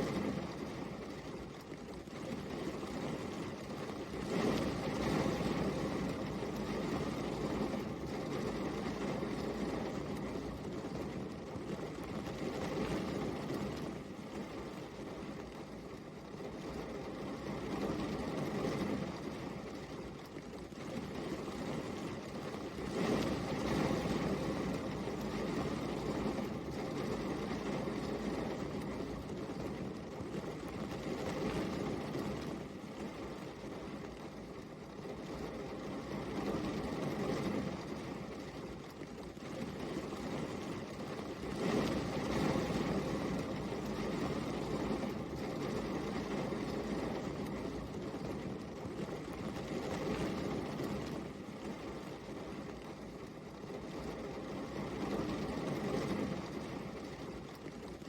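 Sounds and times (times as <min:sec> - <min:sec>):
rain falling steadily: 0:00.0 - 0:58.0.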